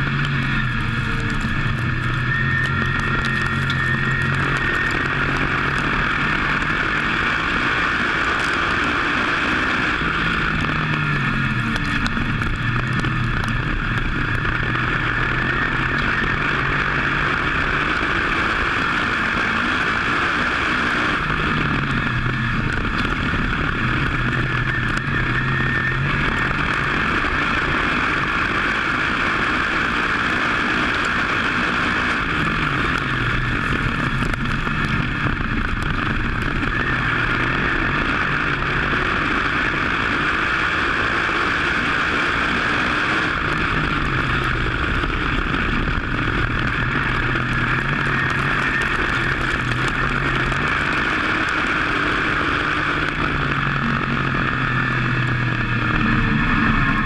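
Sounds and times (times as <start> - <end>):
wind and road rush: 0.0 - 57.0.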